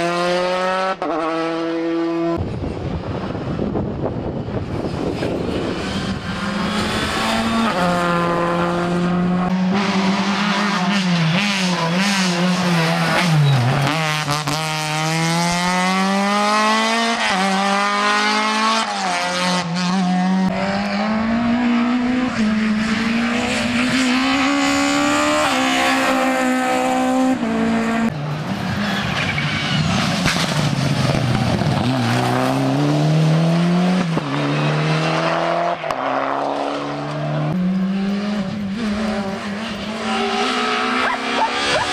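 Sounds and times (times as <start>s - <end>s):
rally car engine revving: 0.0s - 2.6s, 3.2s - 41.9s.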